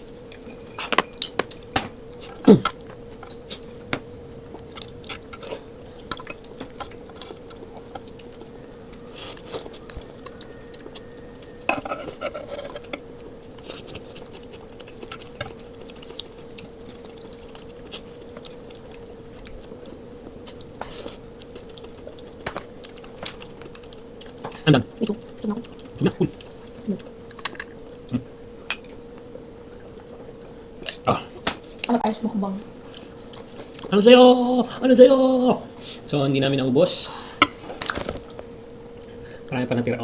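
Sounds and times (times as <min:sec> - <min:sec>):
chewing and mouth noises: 0:00.0 - 0:32.0, 0:32.6 - 0:34.0
steady hum: 0:00.0 - 0:40.0.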